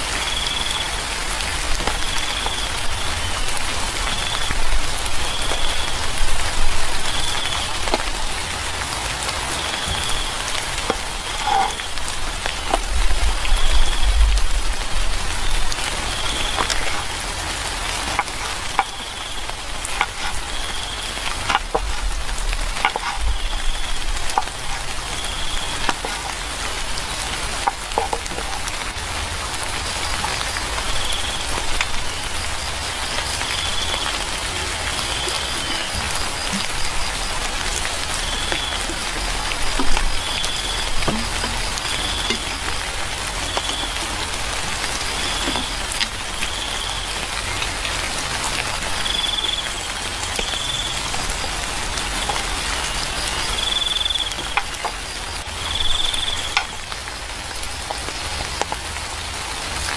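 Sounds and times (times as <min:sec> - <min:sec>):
raindrop ticks: 0:00.0 - 0:59.9
steady rain hiss: 0:00.0 - 0:59.9.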